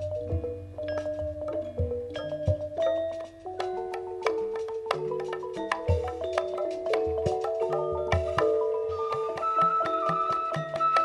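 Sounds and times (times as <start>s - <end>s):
metallophone notes ringing: 0.0s - 11.0s.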